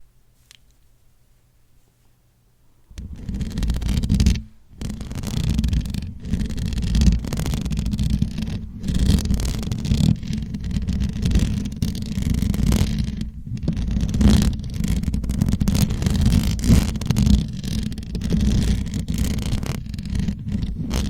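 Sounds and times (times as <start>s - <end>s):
microphone scratching: 2.9s - 21.0s.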